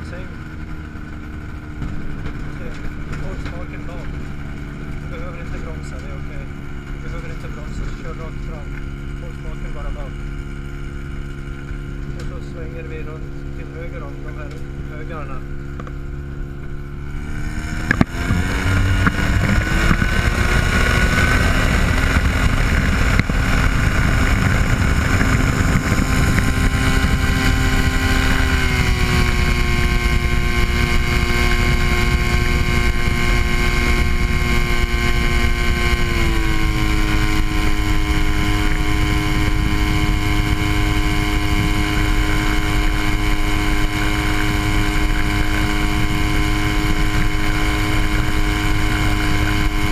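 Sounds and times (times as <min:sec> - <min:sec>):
aircraft engine and propeller: 0:00.0 - 0:49.9.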